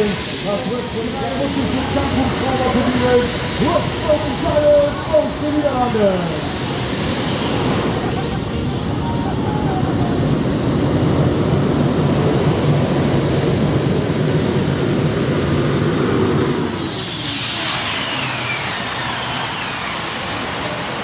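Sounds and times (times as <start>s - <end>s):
tractor engines roaring: 0.0s - 21.0s.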